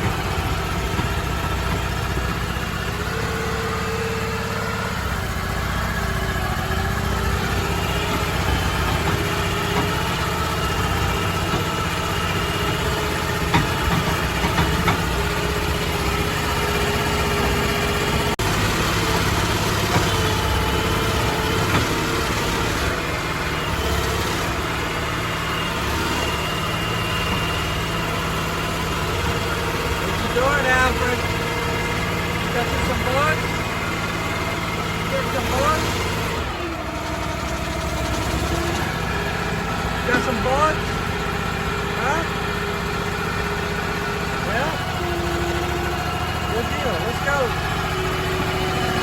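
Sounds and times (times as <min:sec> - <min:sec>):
boat engine idling: 0:00.0 - 0:49.0.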